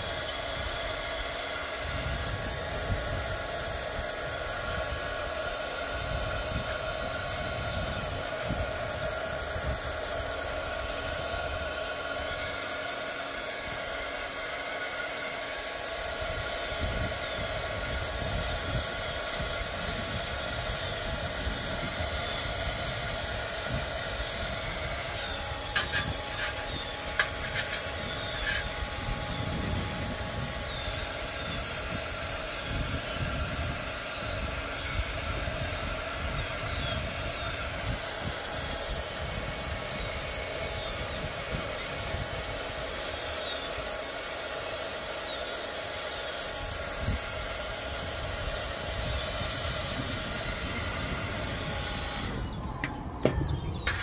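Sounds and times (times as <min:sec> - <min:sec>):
heat gun fan whining: 0:00.0 - 0:54.0.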